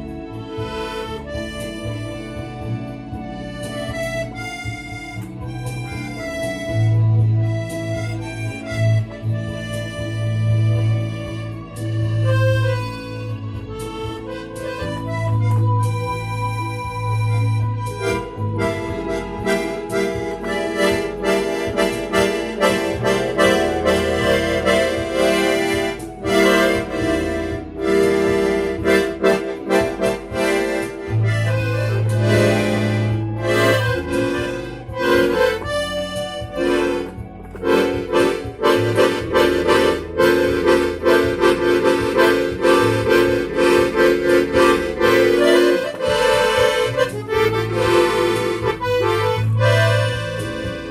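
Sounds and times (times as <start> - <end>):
accordion playing lively tune: 0.0 - 50.9.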